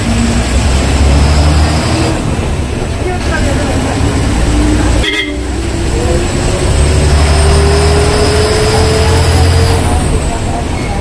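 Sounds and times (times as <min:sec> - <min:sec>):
vehicle engine rumble with rising whine: 0:00.0 - 0:10.8.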